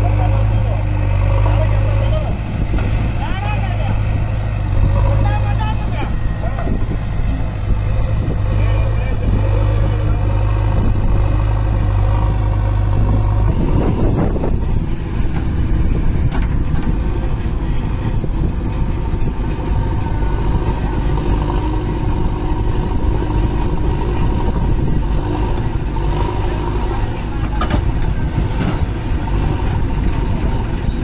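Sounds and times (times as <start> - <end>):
backhoe diesel engine working: 0.0 - 31.0
diesel engine idling: 0.0 - 31.0.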